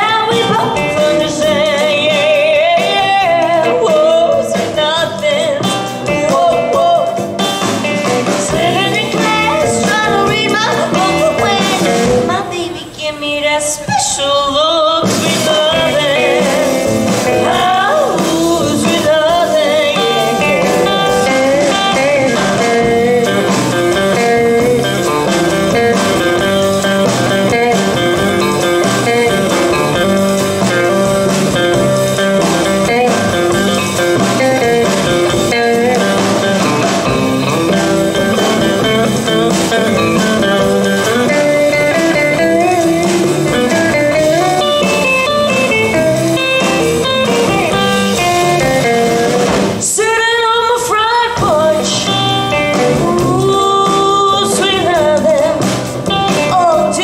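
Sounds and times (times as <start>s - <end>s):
live rockabilly band playing: 0.0s - 57.0s.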